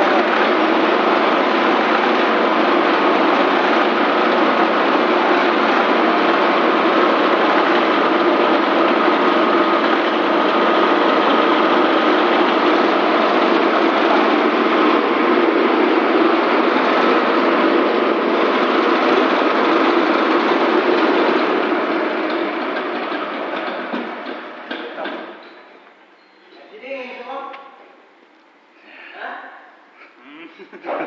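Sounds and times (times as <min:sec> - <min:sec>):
chopping machine running: 0:00.0 - 0:25.6.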